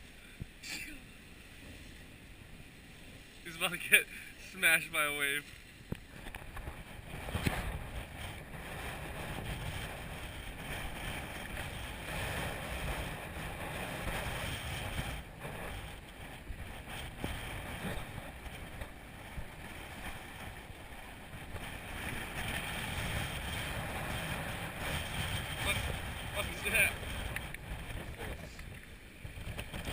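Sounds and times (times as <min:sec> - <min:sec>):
sea waves breaking: 0:00.0 - 0:29.9
wind buffeting microphone: 0:05.8 - 0:29.9.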